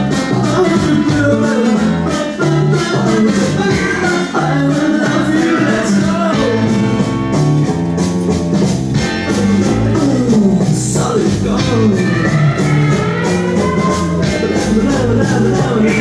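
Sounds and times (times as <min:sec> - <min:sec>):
music with repeating bass line: 0:00.0 - 0:16.0.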